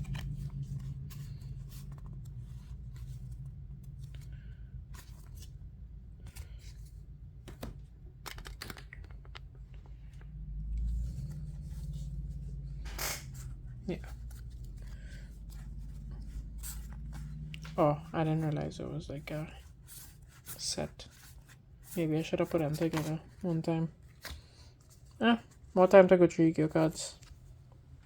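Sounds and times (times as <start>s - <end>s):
steady low hum: 0.0s - 25.8s
cards and packaging handled: 0.0s - 26.0s.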